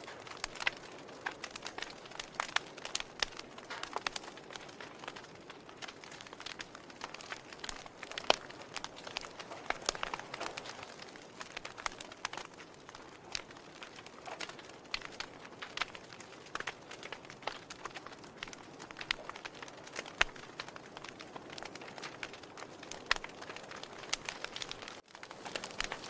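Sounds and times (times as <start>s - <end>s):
soft steady hiss: 0.0s - 26.0s
wood fire crackling and popping: 0.0s - 26.0s.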